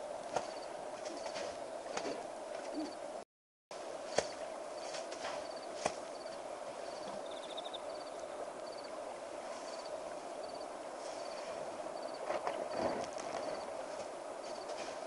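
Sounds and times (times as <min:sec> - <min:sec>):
crickets chirping: 0:00.0 - 0:01.6, 0:03.9 - 0:15.0.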